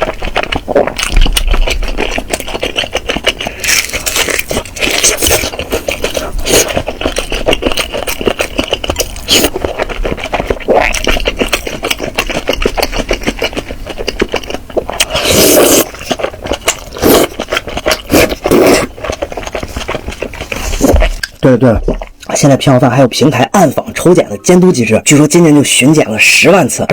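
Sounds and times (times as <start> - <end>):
chewing and crunching food: 0.0 - 24.7.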